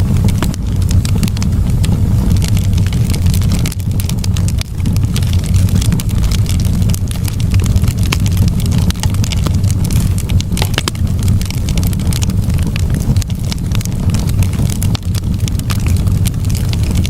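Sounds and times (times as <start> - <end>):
campfire low rumble: 0.0 - 17.0
fire crackling and popping: 0.0 - 17.0.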